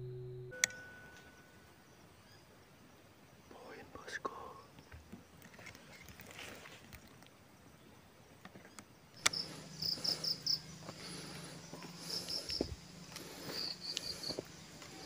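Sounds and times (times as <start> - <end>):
faint low hum: 0.0 - 15.0
insects chirping: 0.1 - 15.0.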